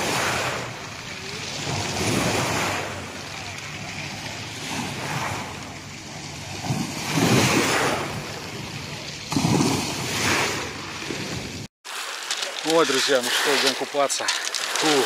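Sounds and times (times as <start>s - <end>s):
sea waves washing on beach: 0.0s - 15.0s.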